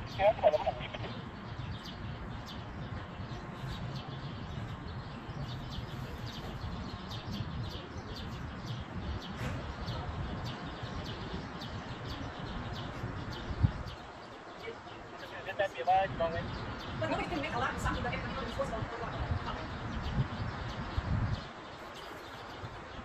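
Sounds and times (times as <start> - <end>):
small birds chirping: 0.0 - 23.0
wind rumble on microphone: 0.0 - 23.0.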